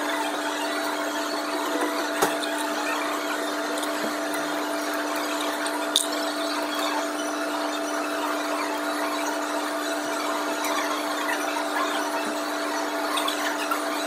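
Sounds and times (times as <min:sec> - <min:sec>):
coffee grinder motor humming: 0:00.0 - 0:14.0.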